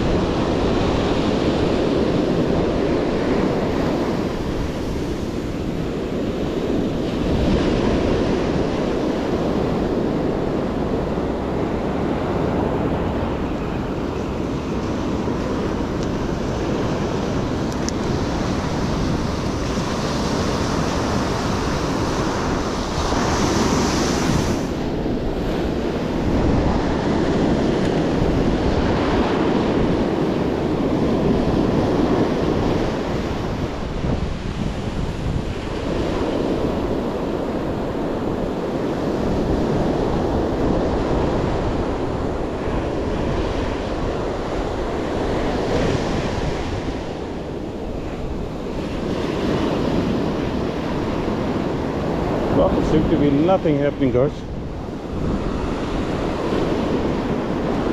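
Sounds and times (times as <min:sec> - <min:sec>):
ocean surf breaking: 0:00.0 - 0:57.9
wind on microphone: 0:00.0 - 0:57.9.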